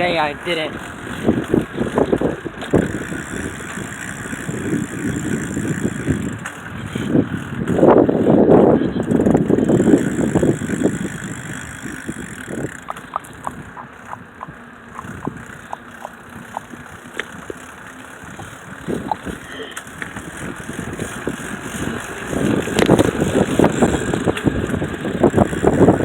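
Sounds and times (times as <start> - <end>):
bicycle wheel ticking: 0.0 - 26.0
rough rattling and rumbling: 0.0 - 26.0.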